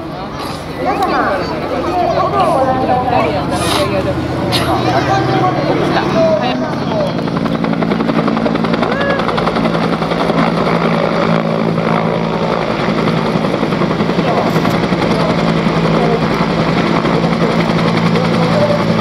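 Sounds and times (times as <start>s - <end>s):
helicopter hovering: 0.0s - 19.0s.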